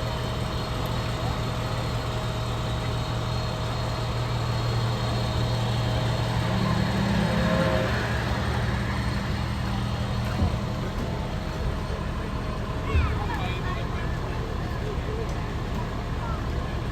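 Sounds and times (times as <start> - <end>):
vehicle engine idling: 0.0 - 16.9.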